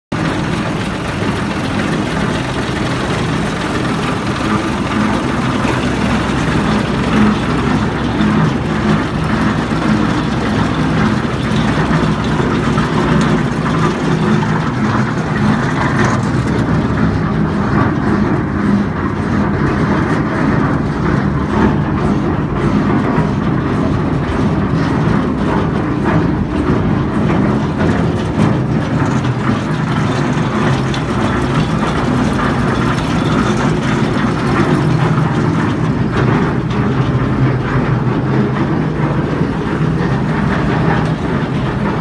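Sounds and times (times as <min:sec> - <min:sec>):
tractor diesel engine running: 0:00.1 - 0:42.0.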